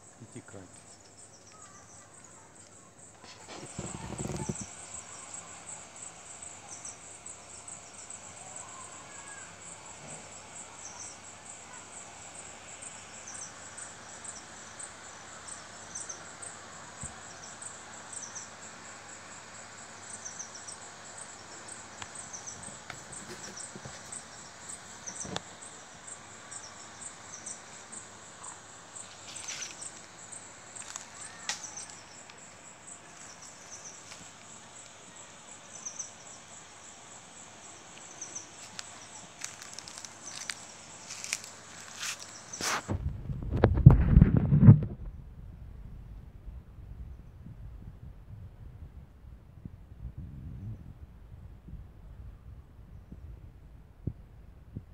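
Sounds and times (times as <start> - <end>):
insects pulsing: 0.0 - 45.3
lower insect chirp: 0.0 - 45.3.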